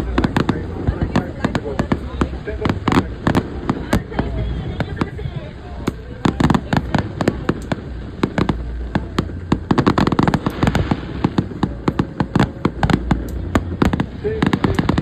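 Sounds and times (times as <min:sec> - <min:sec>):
fireworks bangs and crackles: 0:00.0 - 0:15.0
low steady rumble: 0:00.0 - 0:15.0.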